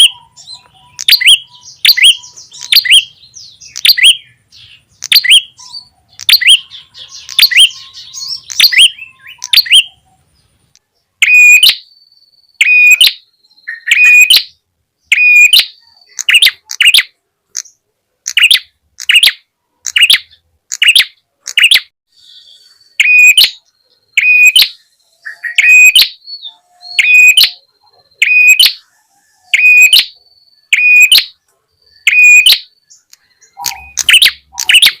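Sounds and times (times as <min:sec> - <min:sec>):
bird high chip calls: 0:00.0 - 0:10.4, 0:11.2 - 0:35.0.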